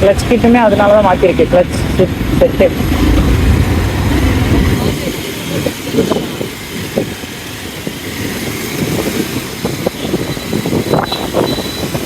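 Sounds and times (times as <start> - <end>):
vehicle engine and traffic rumble: 0.0 - 12.0.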